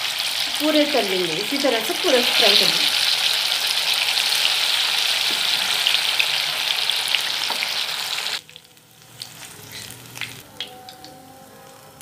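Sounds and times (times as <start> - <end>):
fish sizzling in hot oil: 0.0 - 11.4.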